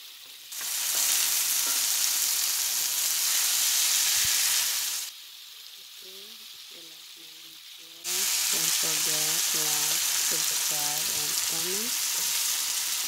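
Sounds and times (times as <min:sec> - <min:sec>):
food sizzling in skillet: 0:00.0 - 0:13.0.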